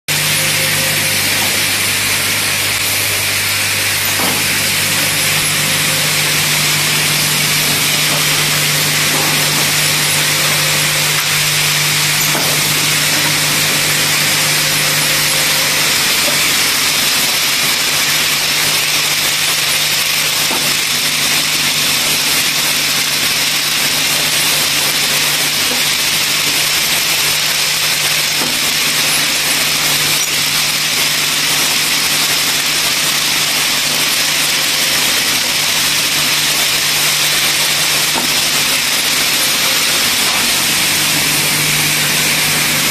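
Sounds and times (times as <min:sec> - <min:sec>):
electric motors humming: 0:00.1 - 0:42.9.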